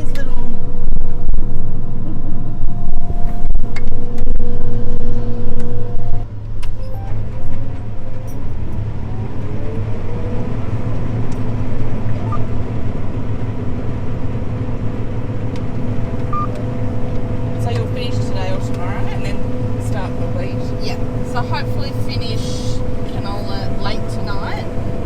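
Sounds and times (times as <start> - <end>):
low engine drone: 0.0 - 25.0
machinery whining: 0.0 - 25.0.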